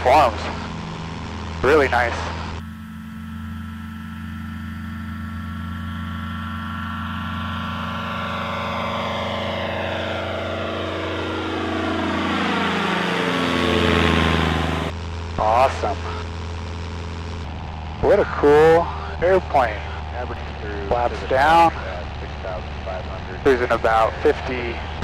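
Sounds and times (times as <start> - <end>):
light aircraft engine flying overhead: 0.0 - 16.2, 17.5 - 25.0.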